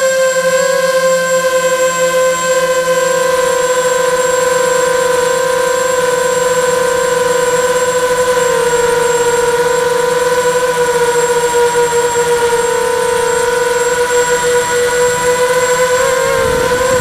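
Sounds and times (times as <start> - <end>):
drone propellers whining: 0.2 - 17.0.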